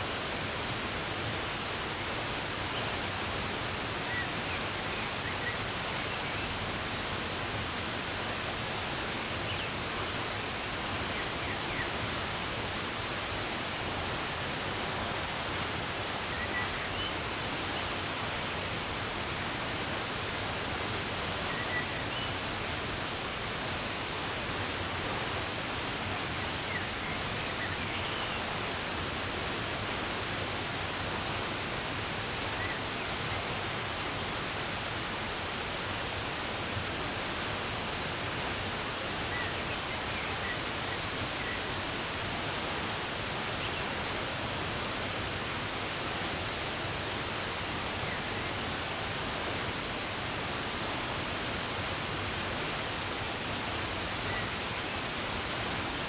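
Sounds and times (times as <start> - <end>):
rush of running water: 0.0 - 56.0.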